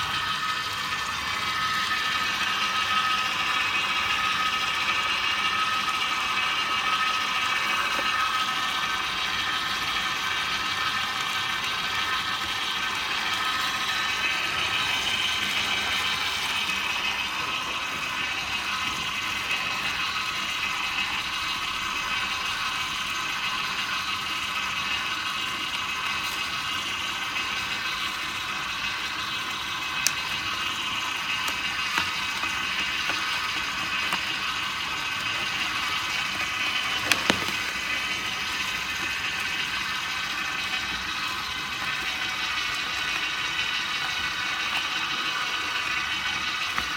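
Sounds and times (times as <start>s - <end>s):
juicer motor whirring: 0.0s - 46.9s.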